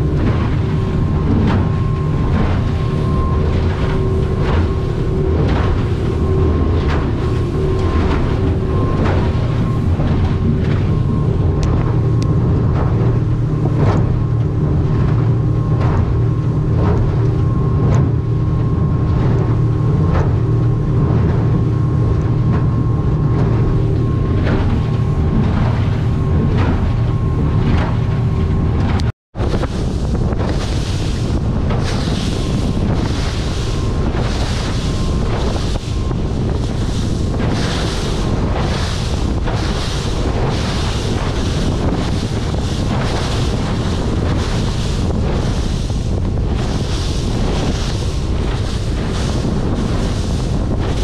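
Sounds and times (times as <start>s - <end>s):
hull knocking on waves: 0.0s - 51.0s
outboard motor running: 0.0s - 51.0s
rushing water: 0.0s - 51.0s
wind buffeting microphone: 0.0s - 51.0s.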